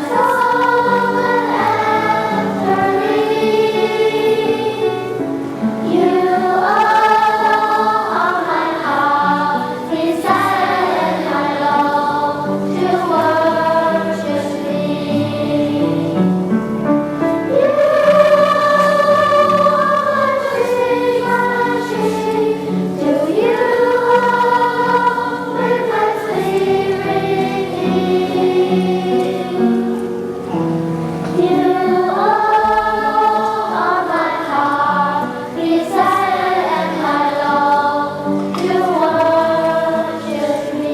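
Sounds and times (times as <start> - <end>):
choir singing slow song: 0.0 - 40.9.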